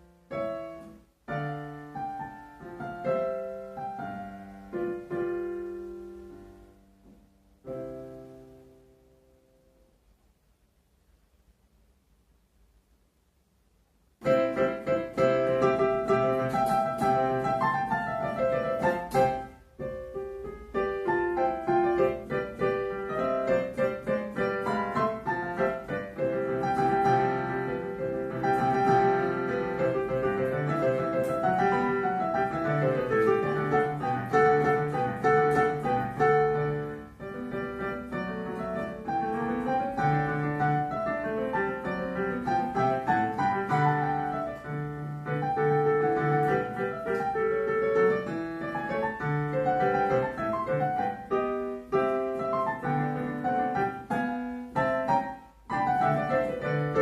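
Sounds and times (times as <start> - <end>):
piano piece: 0.0 - 11.4, 14.0 - 57.0.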